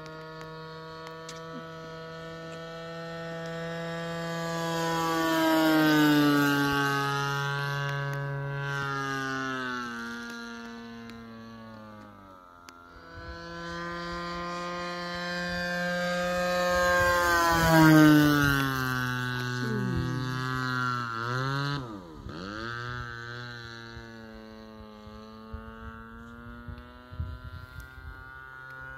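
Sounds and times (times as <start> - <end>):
model airplane engine droning: 0.0 - 28.9.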